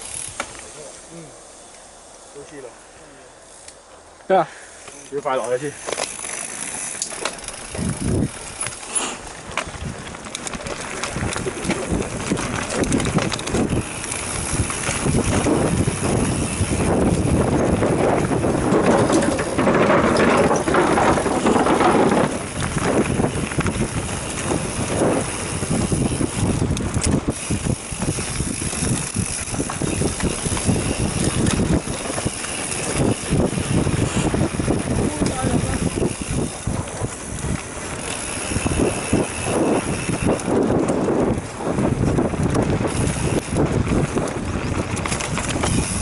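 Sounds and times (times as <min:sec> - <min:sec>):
bike rattling over bumps: 0:00.0 - 0:02.7, 0:03.8 - 0:46.0
wind buffeting microphone: 0:05.6 - 0:46.0.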